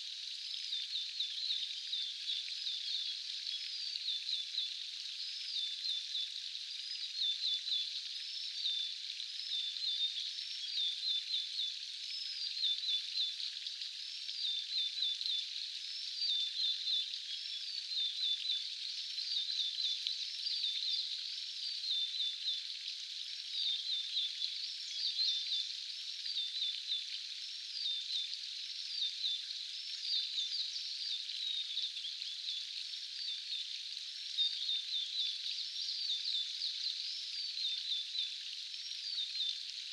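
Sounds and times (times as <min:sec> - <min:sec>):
songbird chirping: 0:00.4 - 0:39.9.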